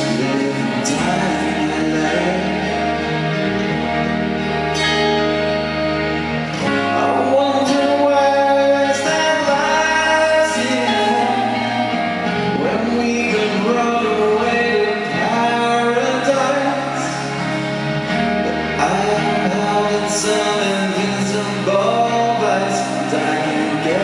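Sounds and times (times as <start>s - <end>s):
live pop band music: 0.0s - 24.0s
person singing: 0.0s - 24.0s.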